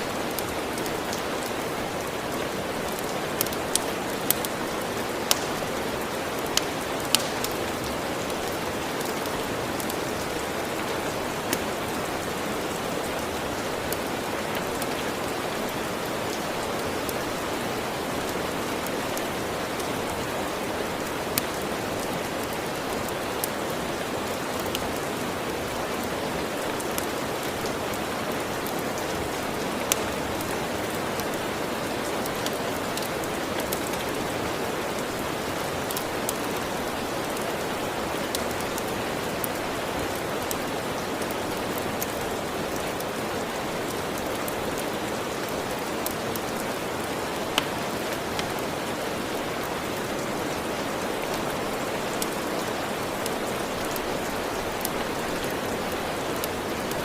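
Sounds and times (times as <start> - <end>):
steady rain hiss: 0.0 - 57.0
wood fire crackling: 0.0 - 57.0.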